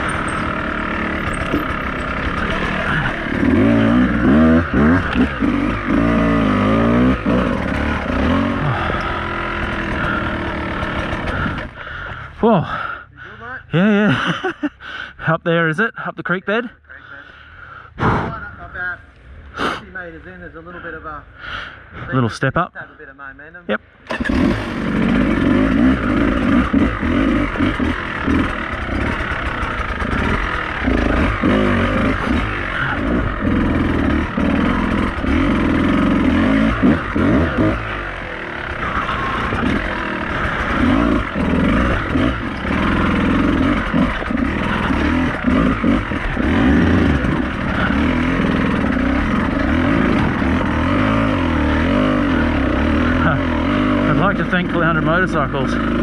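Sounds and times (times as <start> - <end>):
dirt bike engine revving: 0.0 - 12.9, 24.1 - 56.0.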